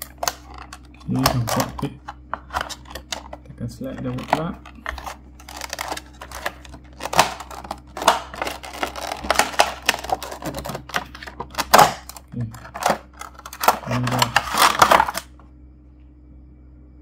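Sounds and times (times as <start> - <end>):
plastic packaging crackling: 0.0 - 15.4.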